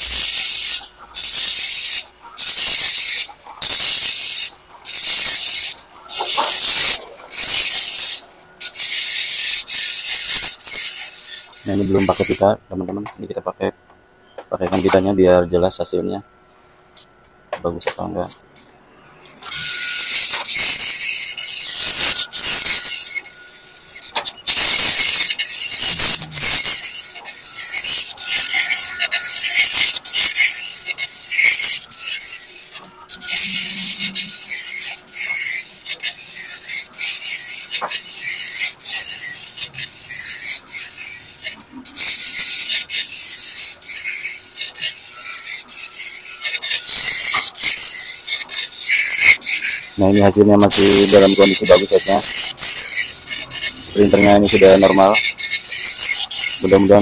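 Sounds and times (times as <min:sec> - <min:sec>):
dot-matrix printer printing: 0:00.0 - 0:13.2, 0:14.4 - 0:15.3, 0:19.4 - 0:57.0.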